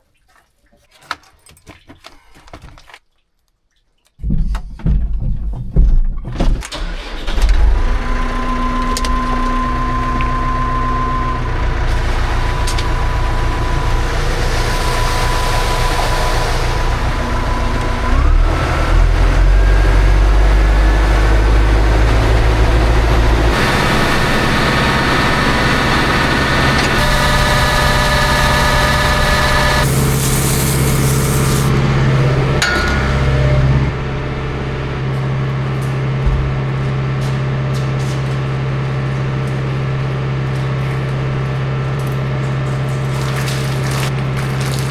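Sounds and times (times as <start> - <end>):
vehicle engine starting and running: 6.2 - 44.9.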